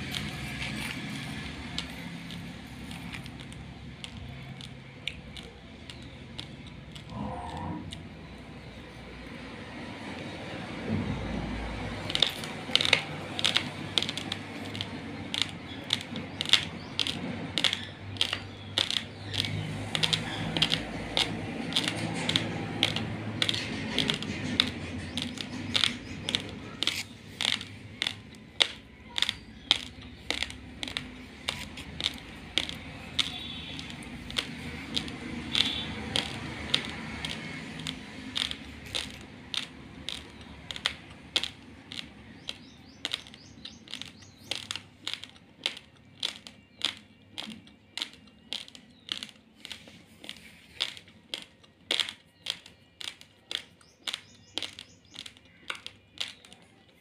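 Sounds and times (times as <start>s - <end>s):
dry rice grains crunching in chewing: 0.0s - 57.0s.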